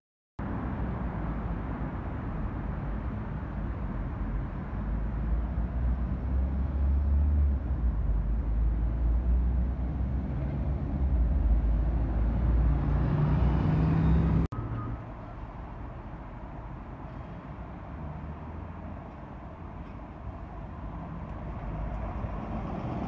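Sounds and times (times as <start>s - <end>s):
bus diesel engine drone: 0.4s - 23.0s
quiet street noise: 0.4s - 23.0s.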